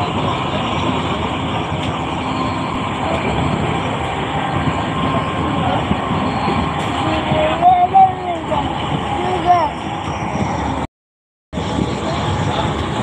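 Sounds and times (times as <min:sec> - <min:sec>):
train carriage rumbling on rails: 0:00.0 - 0:10.9, 0:11.6 - 0:13.0.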